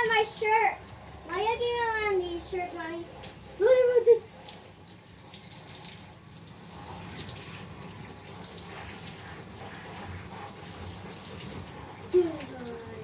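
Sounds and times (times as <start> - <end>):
bath water running from tap: 0.0 - 13.0.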